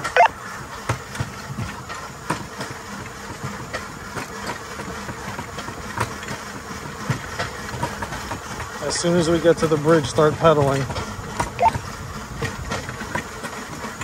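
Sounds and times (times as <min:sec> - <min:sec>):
rail bike rolling on track: 0:00.0 - 0:14.0.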